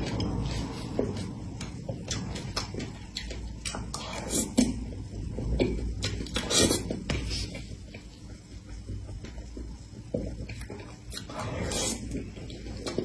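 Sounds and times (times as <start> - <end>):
wet chewing sounds: 0.0 - 13.0.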